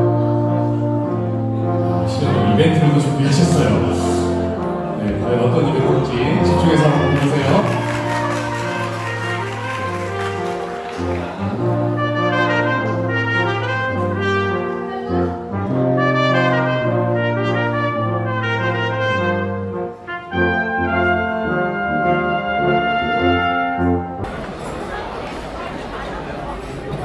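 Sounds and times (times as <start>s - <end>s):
brass quintet playing: 0.0s - 24.3s
busy room noise: 0.0s - 27.0s.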